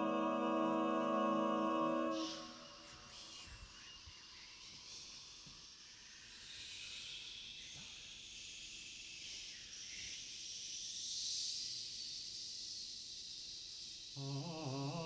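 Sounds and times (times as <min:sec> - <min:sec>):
voices making hissing breath sounds: 0:00.0 - 0:15.0.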